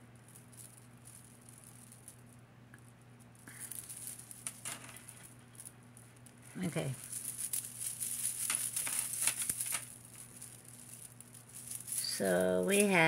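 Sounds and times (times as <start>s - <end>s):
chains and beads clicking and rattling: 0.0s - 2.4s, 3.2s - 13.0s.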